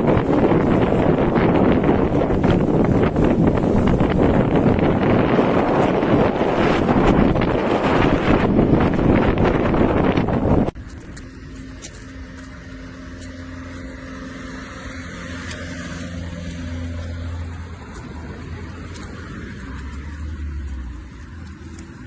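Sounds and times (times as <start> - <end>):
steady low vehicle hum: 0.0 - 22.0
wind on microphone: 0.0 - 22.0.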